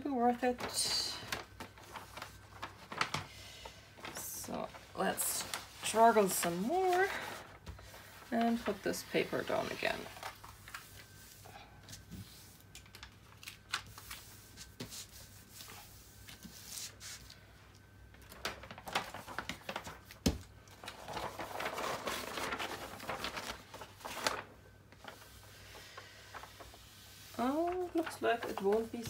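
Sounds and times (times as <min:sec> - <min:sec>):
cover paper rustling and crinkling: 0:00.3 - 0:29.0.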